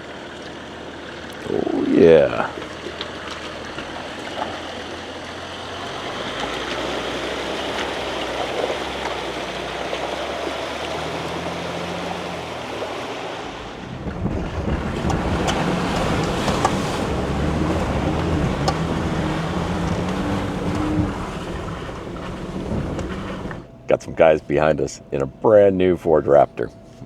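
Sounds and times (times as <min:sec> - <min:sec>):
off-road vehicle engine rumbling: 0:00.0 - 0:27.0
tyres on rocky trail: 0:00.0 - 0:27.0
stones ticking under tyres: 0:02.4 - 0:25.4.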